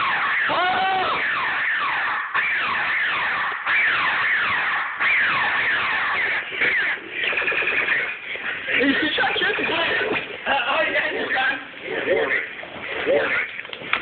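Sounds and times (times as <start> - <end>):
warbling electronic tone: 0.0 - 13.6
laser tag blasters zapping: 0.0 - 14.0.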